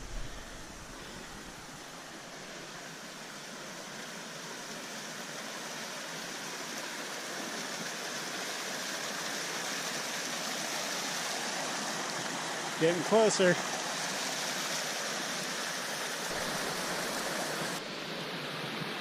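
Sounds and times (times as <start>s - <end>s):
creek and waterfall rushing: 0.0s - 19.0s.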